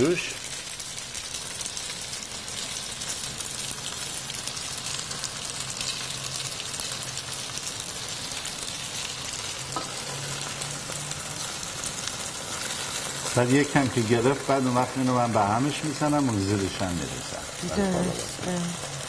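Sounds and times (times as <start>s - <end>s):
pot sizzling and crackling: 0.0s - 19.0s.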